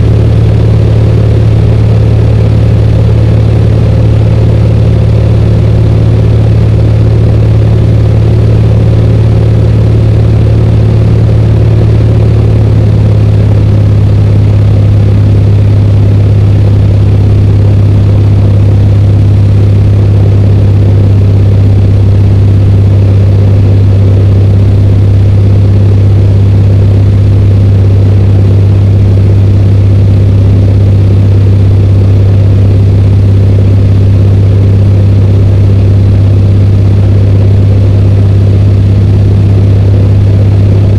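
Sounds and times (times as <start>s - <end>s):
airplane engine and propeller running: 0.0s - 40.9s.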